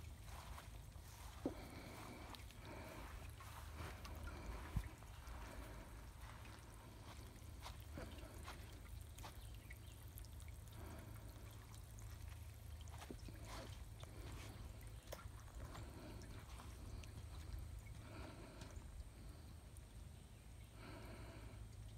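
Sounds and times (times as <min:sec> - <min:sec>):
water trickling and splashing: 0:00.0 - 0:20.2.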